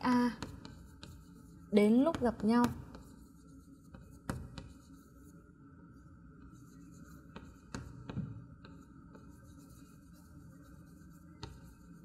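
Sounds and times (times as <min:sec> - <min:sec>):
chalk scratching on chalkboard: 0:00.1 - 0:05.5, 0:06.4 - 0:12.0
chalk tapping on board: 0:00.2 - 0:05.3, 0:06.4 - 0:12.0.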